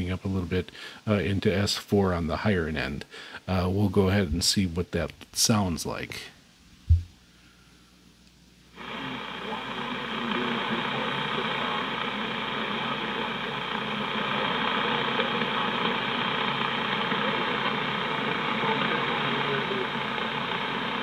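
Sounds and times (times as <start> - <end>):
weak radio broadcast: 0.0 - 7.1, 8.7 - 21.0
radio static hiss: 0.0 - 7.2, 8.6 - 21.0.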